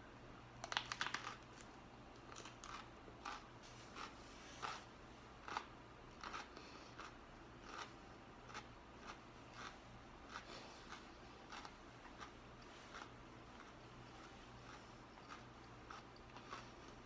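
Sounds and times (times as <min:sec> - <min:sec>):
chewing crunches: 0:00.6 - 0:04.8, 0:05.4 - 0:17.0.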